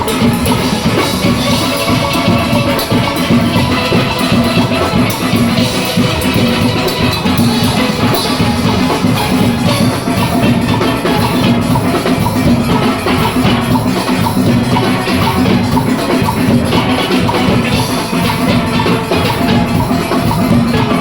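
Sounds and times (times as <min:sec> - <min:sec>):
drum kit and percussion: 0:00.0 - 0:21.0
steelpans playing tune: 0:00.0 - 0:21.0.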